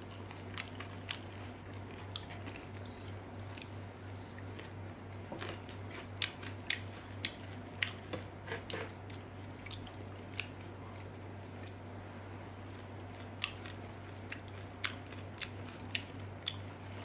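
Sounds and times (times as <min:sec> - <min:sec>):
chewing crunchy chips: 0:00.0 - 0:11.9, 0:12.5 - 0:17.0
steady low hum: 0:00.0 - 0:17.0.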